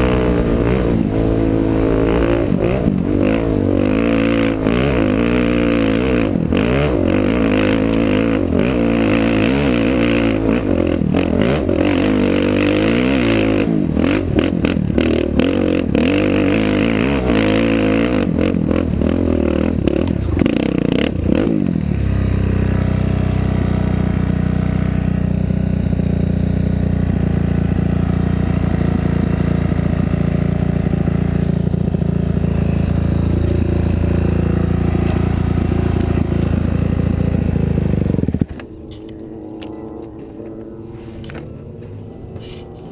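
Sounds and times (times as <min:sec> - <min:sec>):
engine revving: 0:00.0 - 0:42.9.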